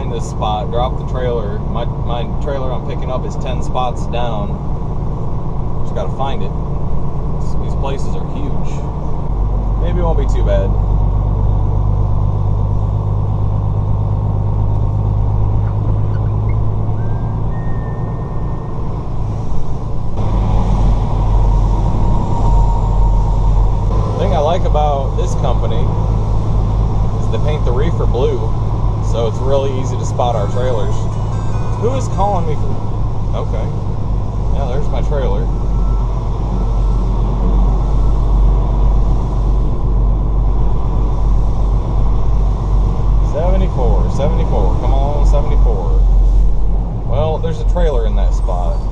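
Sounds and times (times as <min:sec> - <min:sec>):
diesel truck engine drone: 0:00.0 - 0:48.9.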